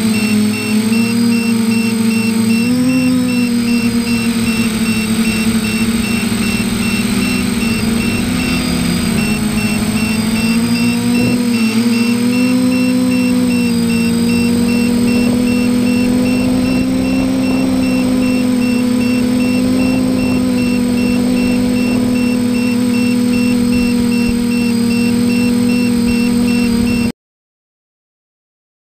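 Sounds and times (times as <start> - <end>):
drone propellers humming: 0.0 - 27.1.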